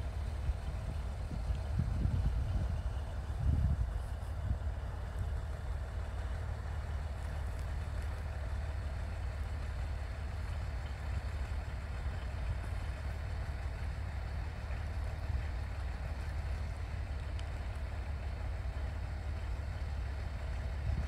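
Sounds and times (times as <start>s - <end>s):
diesel train rumbling: 0.0s - 21.0s.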